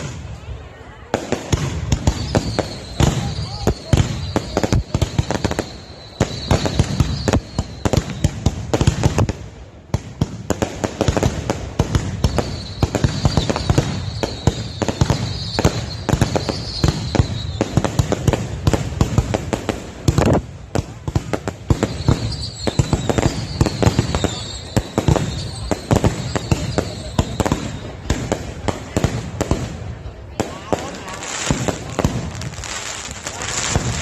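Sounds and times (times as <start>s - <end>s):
fireworks banging and crackling: 0.0s - 34.0s.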